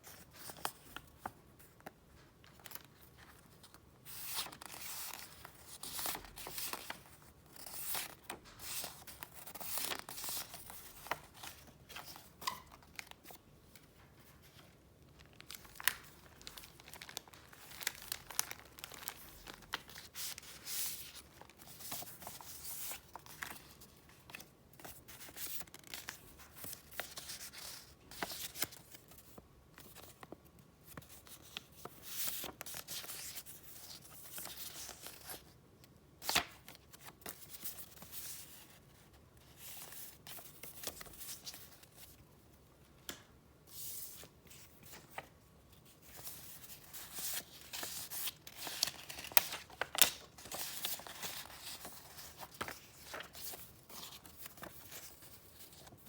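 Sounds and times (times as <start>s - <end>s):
paper rustling and crinkling: 0.0s - 35.6s, 36.2s - 42.2s, 43.7s - 56.0s.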